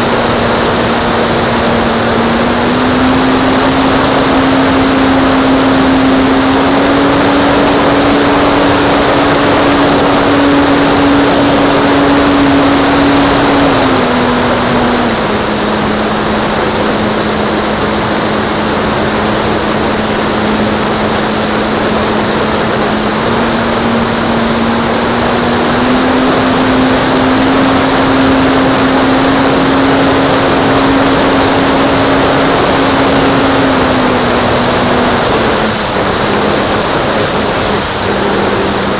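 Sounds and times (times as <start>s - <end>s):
model airplane motor and propeller: 0.0s - 38.9s
rush of noise: 0.0s - 38.9s.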